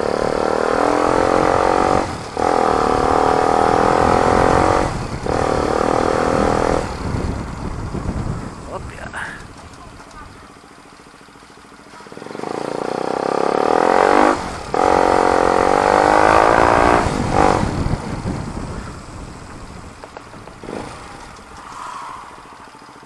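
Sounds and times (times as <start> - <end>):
motorcycle accelerating hard: 0.0 - 23.0.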